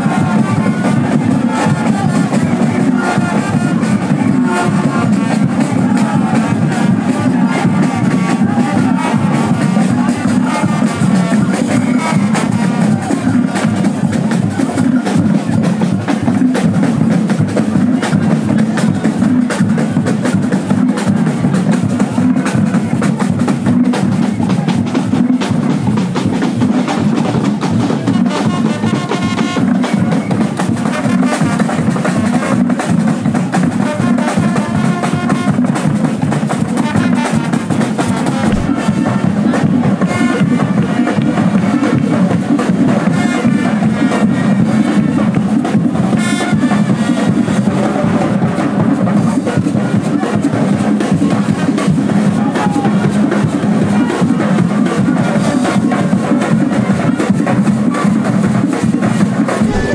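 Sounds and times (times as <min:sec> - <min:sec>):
street band drums playing: 0:00.0 - 0:59.9.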